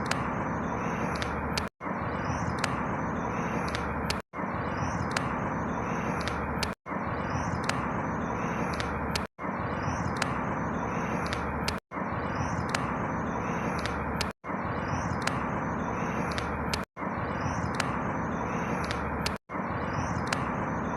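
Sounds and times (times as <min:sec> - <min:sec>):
faint high chirps and ticks: 0:00.0 - 0:20.9.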